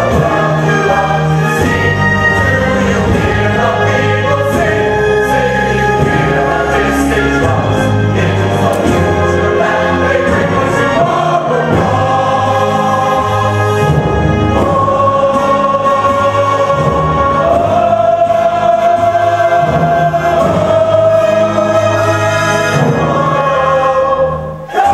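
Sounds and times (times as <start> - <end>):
men and women singing chorus: 0.0 - 24.9.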